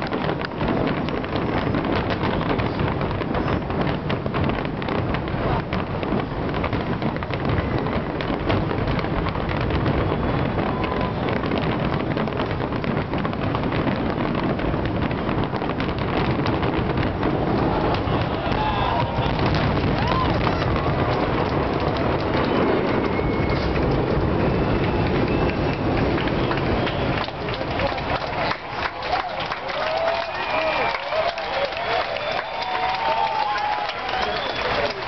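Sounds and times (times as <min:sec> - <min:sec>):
deep firework booms: 0:00.0 - 0:35.0
firework shells crackling: 0:00.0 - 0:35.0.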